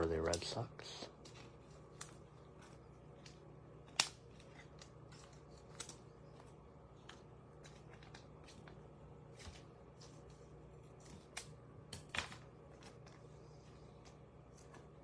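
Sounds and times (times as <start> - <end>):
faint steady hum: 0.0 - 15.0
cards clicking and sliding: 1.2 - 15.0.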